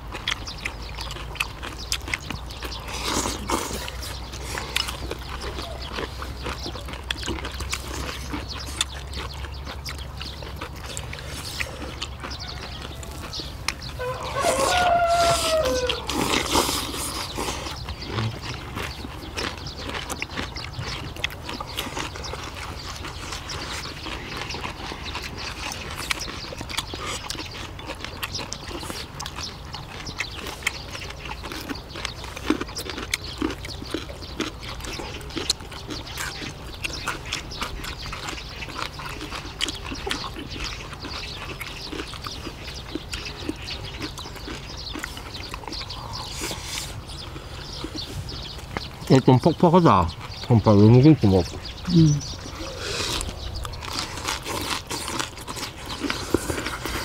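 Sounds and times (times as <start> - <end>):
close chewing: 0.0 - 57.0.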